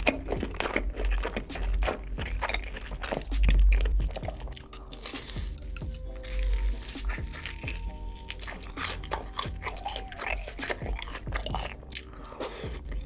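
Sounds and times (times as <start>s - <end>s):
crisp chewing crunches: 0.0s - 13.0s
quiet background music: 0.0s - 13.0s.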